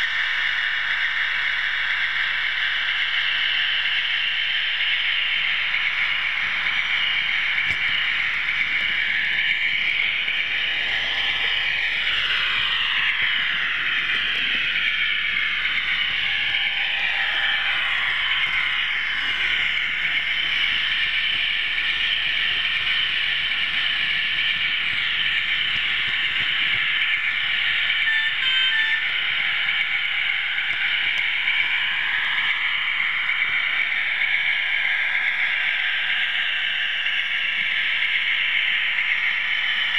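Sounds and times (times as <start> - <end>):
model train motor whine: 0.0 - 39.9.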